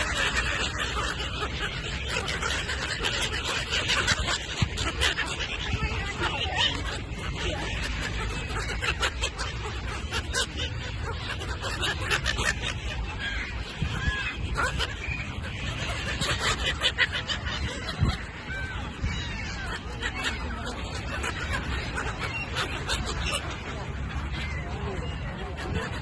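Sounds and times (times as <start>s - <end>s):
seagulls squawking: 0.0s - 26.0s.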